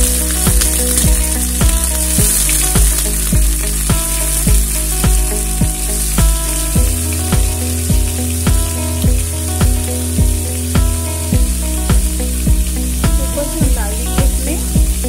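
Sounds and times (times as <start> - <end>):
background music with steady beat: 0.0 - 15.0
food sizzling in hot oil: 0.0 - 15.0.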